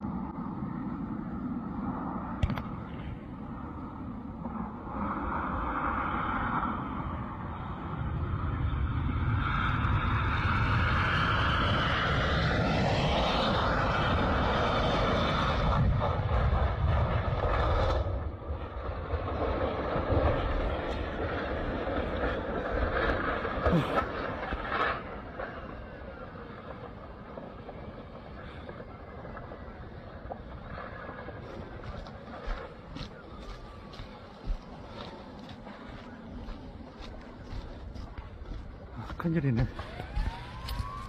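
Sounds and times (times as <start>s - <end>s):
jet aircraft engine: 0.0s - 41.0s.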